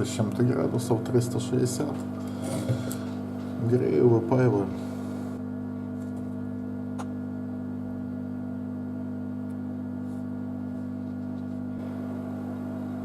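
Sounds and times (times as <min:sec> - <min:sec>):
hot-air gun blower hum: 0:00.0 - 0:13.0.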